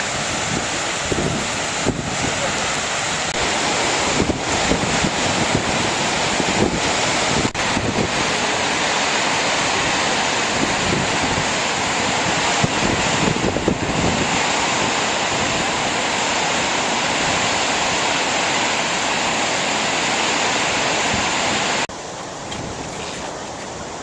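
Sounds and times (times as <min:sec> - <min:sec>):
wind buffeting microphone: 0:00.0 - 0:18.6, 0:21.0 - 0:24.0
waterfall rushing: 0:00.0 - 0:24.0.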